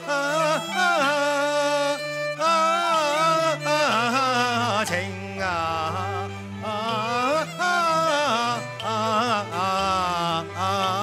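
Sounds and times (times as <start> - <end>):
traditional opera ensemble playing: 0.0 - 11.0.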